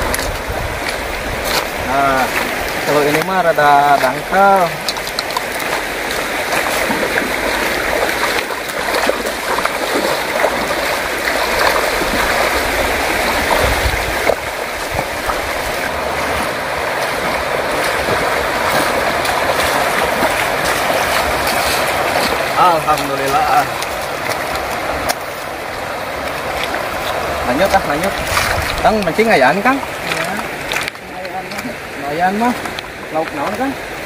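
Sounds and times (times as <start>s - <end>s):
feet splashing wading: 0.0s - 34.0s
river rushing over stones: 0.0s - 34.0s.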